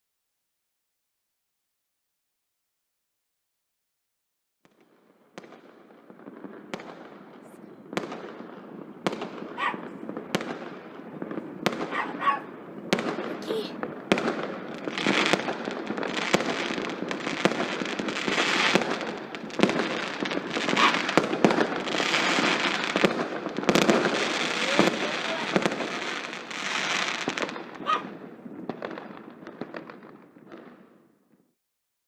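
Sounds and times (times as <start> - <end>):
fireworks bangs and crackles: 4.6 - 31.5.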